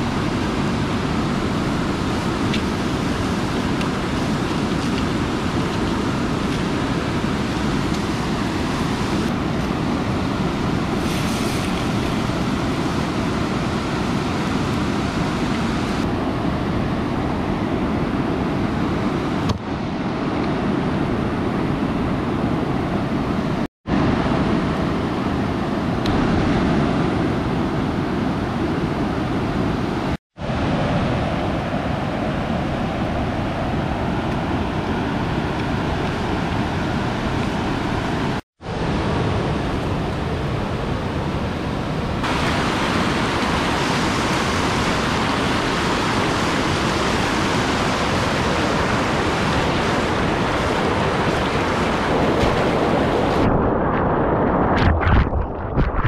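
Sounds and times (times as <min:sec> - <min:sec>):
stream and waterfall rushing: 0:00.0 - 0:53.4.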